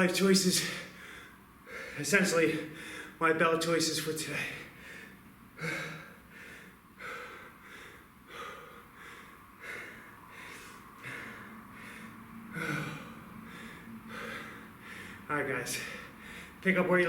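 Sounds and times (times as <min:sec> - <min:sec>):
man breathing hard: 0:00.6 - 0:03.2, 0:04.4 - 0:16.6.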